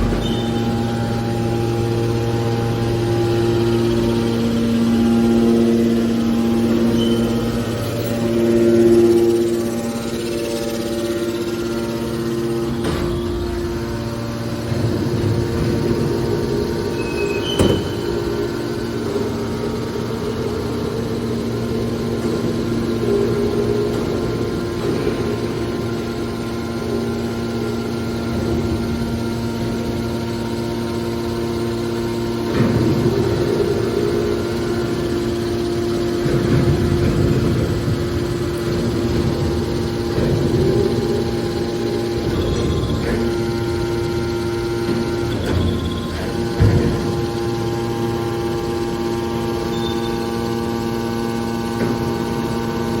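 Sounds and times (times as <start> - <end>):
factory machinery humming: 0.0 - 53.0.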